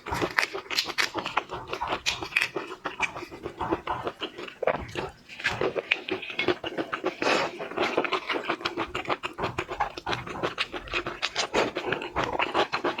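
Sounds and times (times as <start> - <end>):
lip smacks and sucking: 0.0 - 13.0
wet chewing: 0.0 - 13.0.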